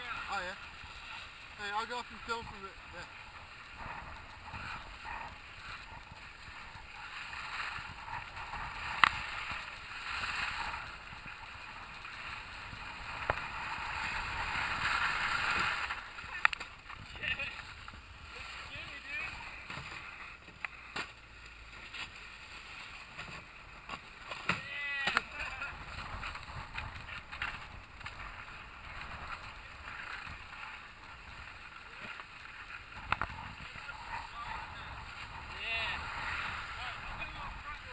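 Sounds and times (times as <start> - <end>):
wind rumbling on microphone: 0.0 - 20.5, 24.7 - 37.9
board edges scraping snow: 0.0 - 37.9.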